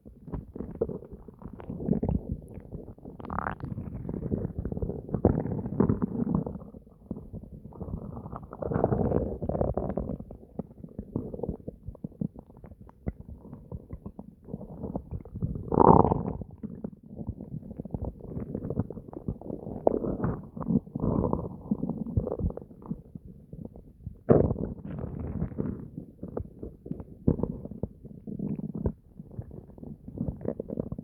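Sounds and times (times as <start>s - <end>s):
stomach gurgling and rumbling: 0.0s - 31.0s.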